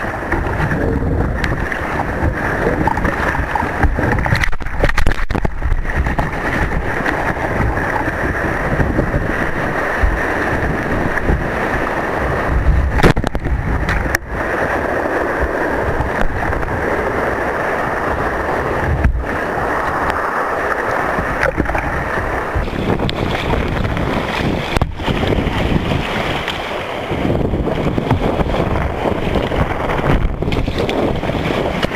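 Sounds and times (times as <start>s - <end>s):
surf rushing around kayak: 0.0s - 31.9s
wind buffeting microphone: 0.0s - 31.9s.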